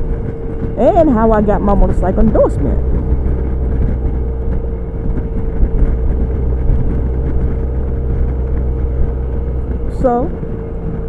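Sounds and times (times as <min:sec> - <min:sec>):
scooter engine humming: 0:00.0 - 0:11.0
wind rumble on microphone: 0:00.0 - 0:11.0.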